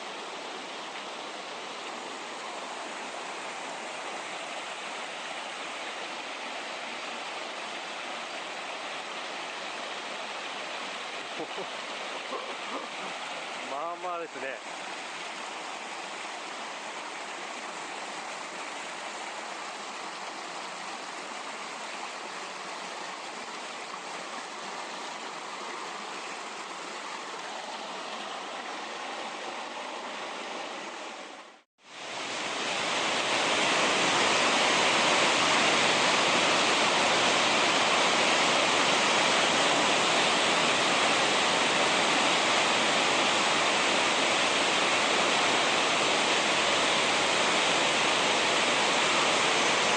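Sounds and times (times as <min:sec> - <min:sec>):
mountain stream rushing: 0:00.0 - 0:49.9.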